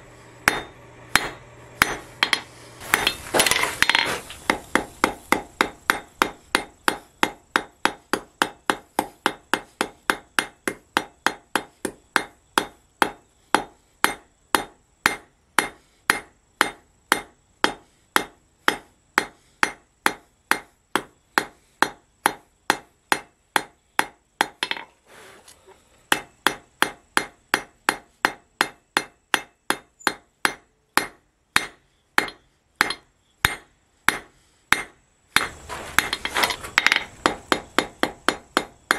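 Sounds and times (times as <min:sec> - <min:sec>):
hammer striking metal on anvil: 0:00.4 - 0:24.9, 0:26.1 - 0:38.9.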